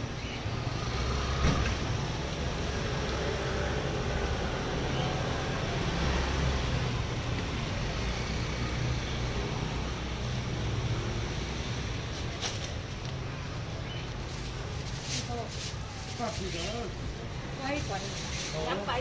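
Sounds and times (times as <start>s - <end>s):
roadside traffic: 0.0s - 19.0s.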